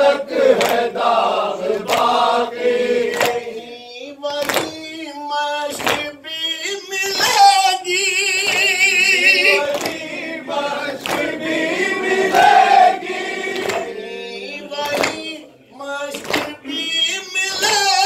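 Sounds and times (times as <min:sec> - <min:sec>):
men chanting a lament: 0:00.0 - 0:18.0.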